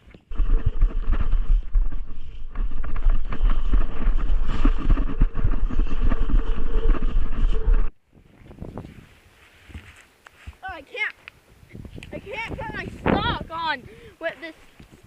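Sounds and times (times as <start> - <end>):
wind buffeting microphone: 0.2 - 9.1, 11.4 - 15.0.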